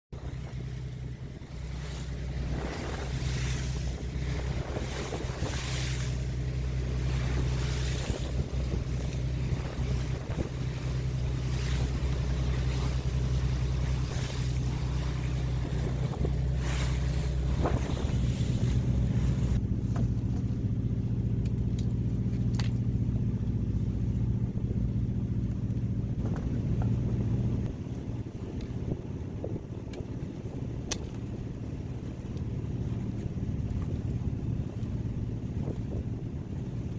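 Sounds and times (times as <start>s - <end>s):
wind: 0.0s - 36.9s
boat engine running: 0.1s - 36.9s
water noise: 0.1s - 36.9s.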